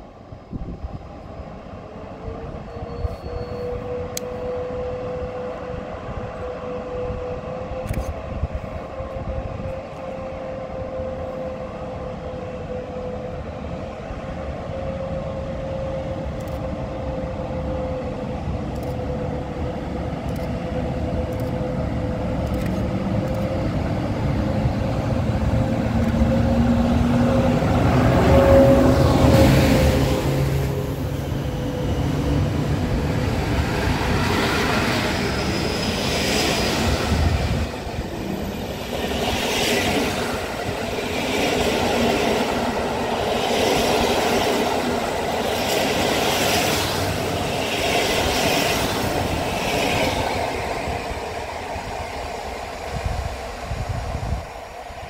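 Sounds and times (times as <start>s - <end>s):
train approaching: 0.0s - 55.0s.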